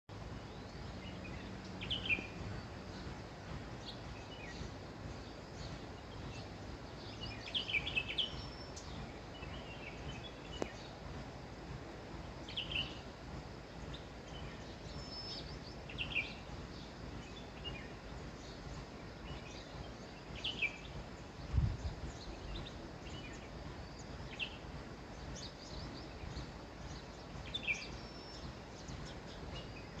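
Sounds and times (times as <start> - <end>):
birds chirping: 0.1 - 30.0
outdoor background hiss: 0.1 - 30.0.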